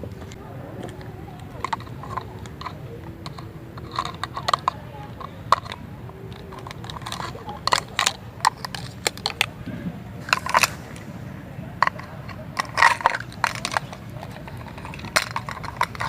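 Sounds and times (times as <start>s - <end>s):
steady low hum: 0.0s - 16.0s
toy cookware clicks and knocks: 0.2s - 9.5s, 10.2s - 11.0s, 11.8s - 16.0s.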